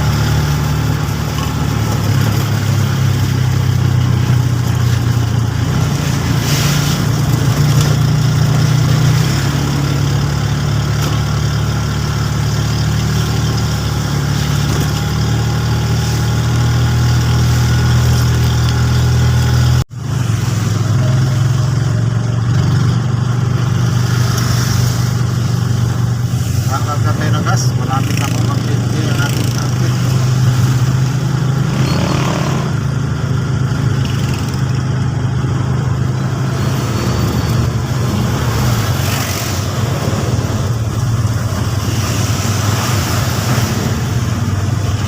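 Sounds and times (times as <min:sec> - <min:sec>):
road noise: 0:00.0 - 0:45.0
vehicle engine humming: 0:00.0 - 0:45.0.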